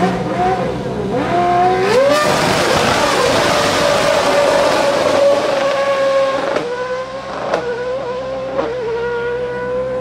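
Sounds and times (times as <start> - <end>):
race car engine at high revs: 0.0 - 10.0.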